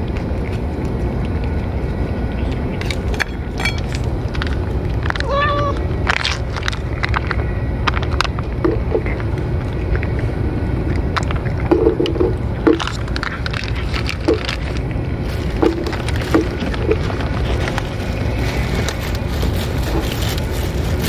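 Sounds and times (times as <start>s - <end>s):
cat chewing food: 0.0s - 21.0s
low background rumble: 0.0s - 21.0s.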